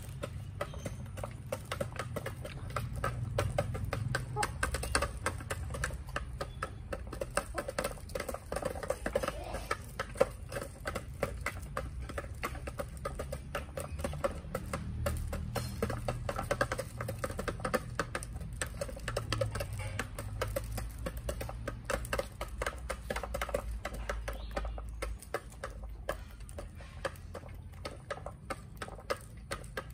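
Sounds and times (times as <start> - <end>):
beaks tapping on plastic tray: 0.0 - 29.9.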